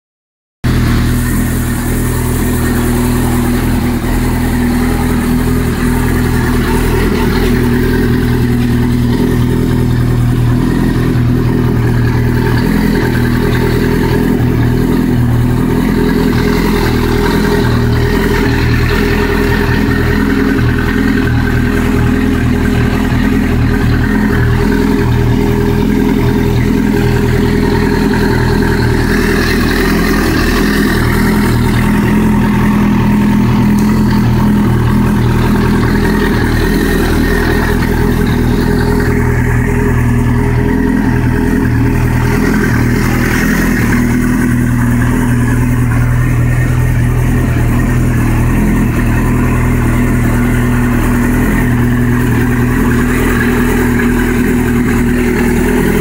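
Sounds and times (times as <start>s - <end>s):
motorcycle engine idling: 0.6s - 56.0s.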